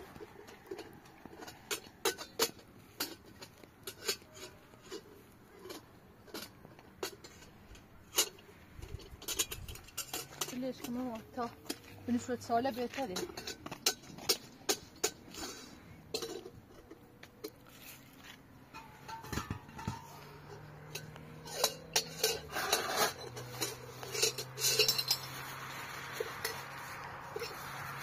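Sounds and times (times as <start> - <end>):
dishes and utensils clinking: 0.1 - 28.0.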